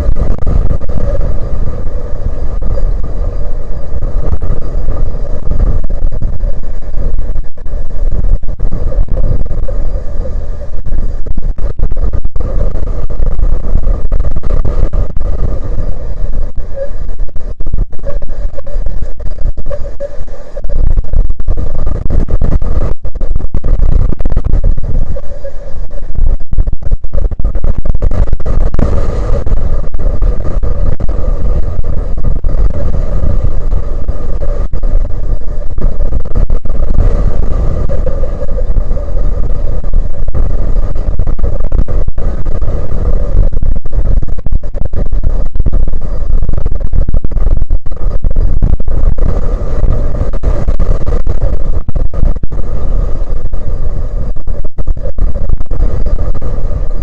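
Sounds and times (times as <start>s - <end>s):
strong wind buffeting microphone: 0.0s - 57.0s.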